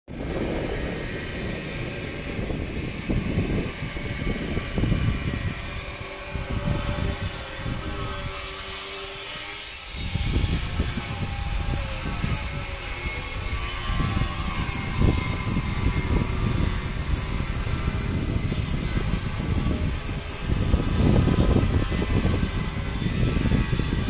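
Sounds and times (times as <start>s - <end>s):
wind rumbling on microphone: 0.1s - 24.0s.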